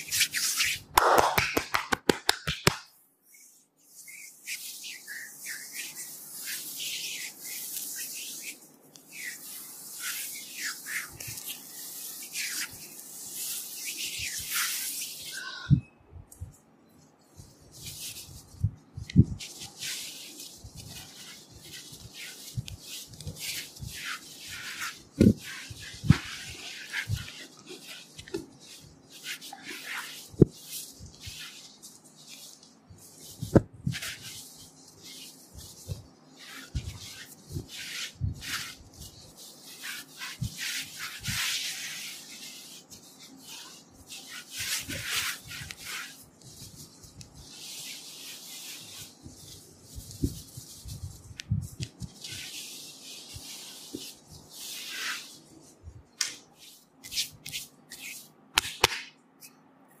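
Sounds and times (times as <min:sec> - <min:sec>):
towel rubbing skin: 0:00.0 - 0:15.4, 0:17.4 - 0:59.0.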